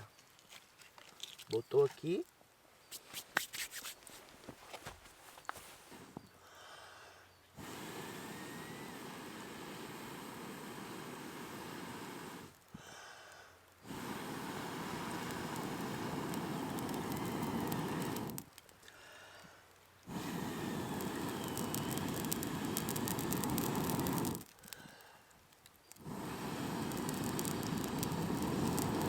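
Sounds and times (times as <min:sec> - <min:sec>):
faint fire crackling: 0:00.0 - 0:29.0
person blowing on embers: 0:05.6 - 0:29.0.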